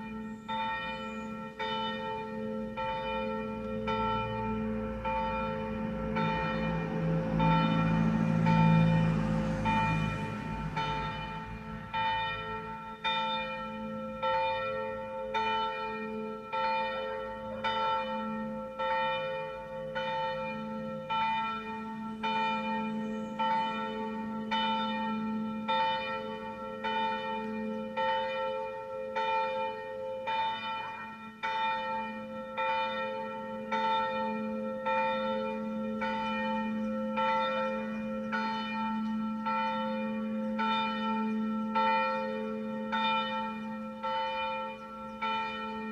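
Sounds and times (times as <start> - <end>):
church bell ringing: 0.0 - 45.9.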